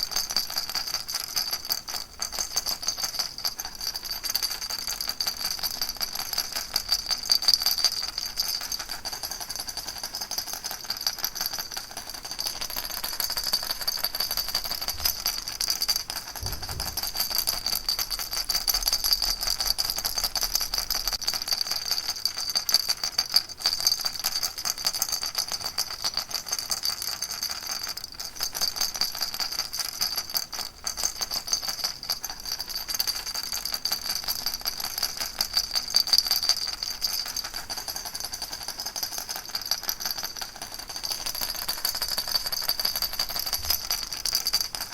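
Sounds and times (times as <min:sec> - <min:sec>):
baby rattle shaken: 0:00.0 - 0:44.9.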